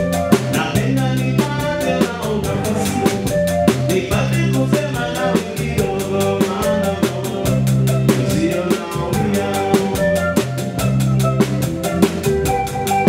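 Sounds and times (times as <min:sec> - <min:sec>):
bass line: 0:00.0 - 0:13.0
drum kit beat: 0:00.0 - 0:13.0
keyboard chords: 0:00.0 - 0:13.0
live band playing dance music: 0:00.0 - 0:13.0.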